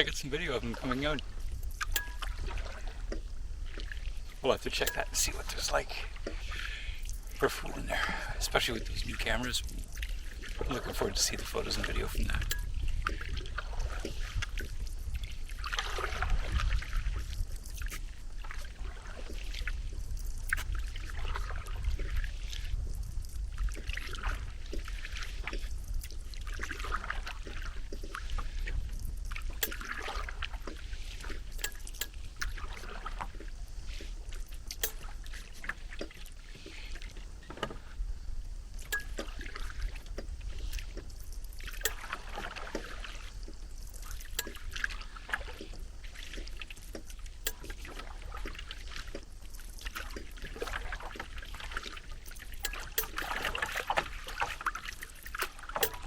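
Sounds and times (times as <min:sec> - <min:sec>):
paddle strokes in water: 0:00.0 - 0:56.0.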